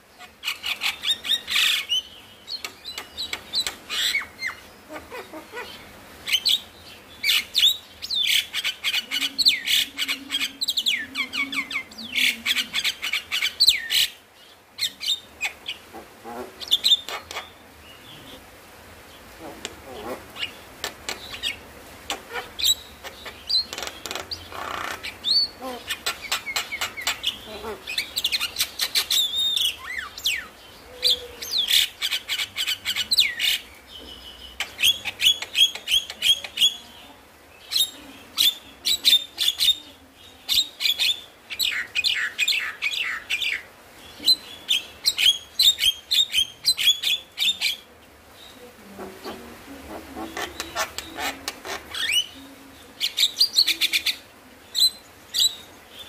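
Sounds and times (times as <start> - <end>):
bird singing chattering song: 0.2 - 18.4, 19.1 - 48.6, 49.2 - 56.0.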